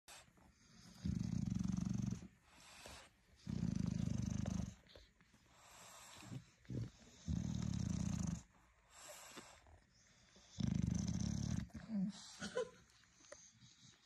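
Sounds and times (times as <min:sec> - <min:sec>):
dog breathing: 0:00.1 - 0:14.0.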